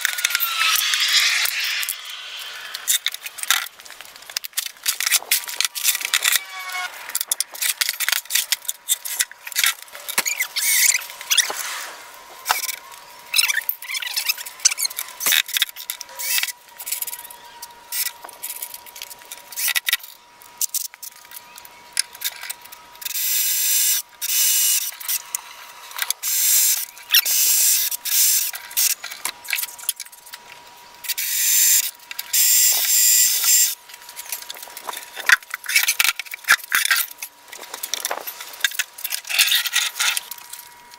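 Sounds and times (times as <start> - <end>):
faint steady whine: 0.0 - 40.9.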